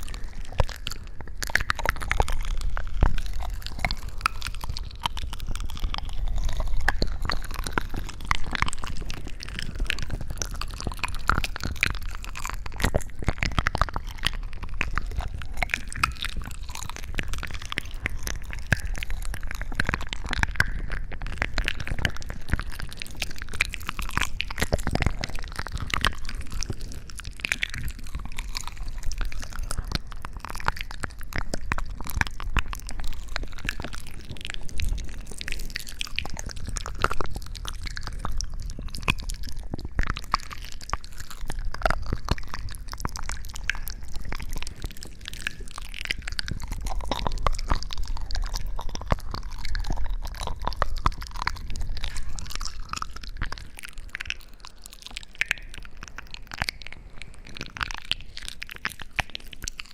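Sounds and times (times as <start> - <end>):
crunching and crackling: 0.0 - 59.9.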